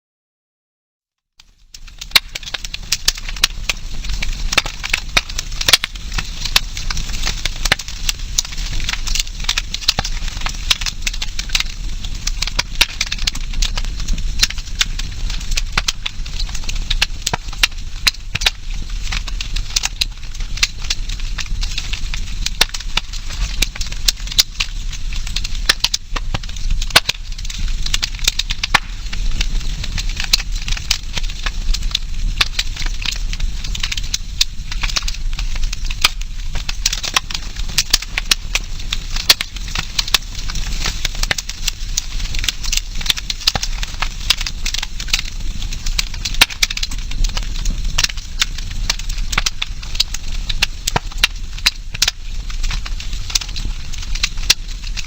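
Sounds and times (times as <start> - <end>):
fire hiss: 1.4 - 55.0
wood crackling and popping: 1.4 - 55.0.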